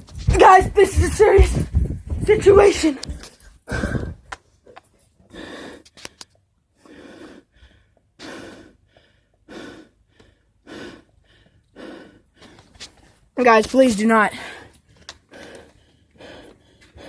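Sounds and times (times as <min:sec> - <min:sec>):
person breathing heavily: 0:00.4 - 0:04.3, 0:05.2 - 0:06.2, 0:06.8 - 0:13.2, 0:14.3 - 0:17.0.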